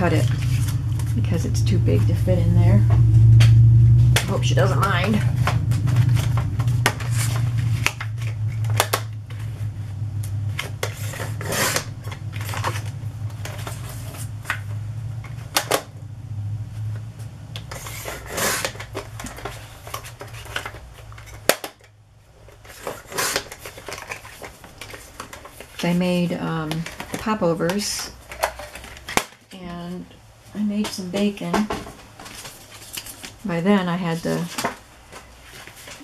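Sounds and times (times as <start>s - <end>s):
low hum: 0.0s - 34.5s.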